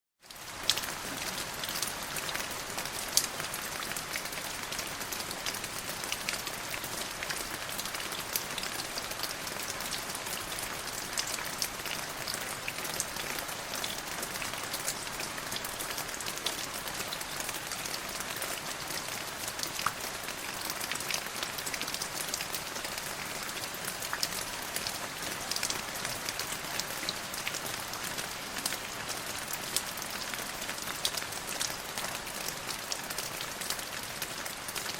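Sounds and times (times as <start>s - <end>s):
rain pattering: 0.2s - 34.9s.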